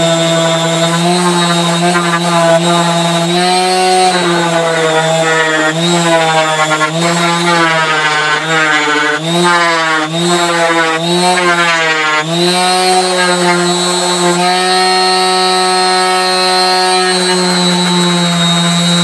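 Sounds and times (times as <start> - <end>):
orbital sander sanding wood: 0.0 - 19.0.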